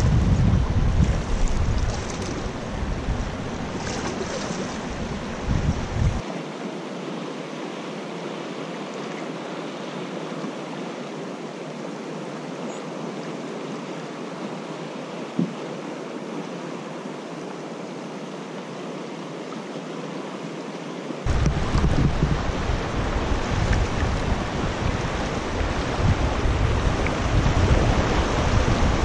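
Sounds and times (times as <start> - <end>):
river water rushing past rocks: 0.0 - 29.0.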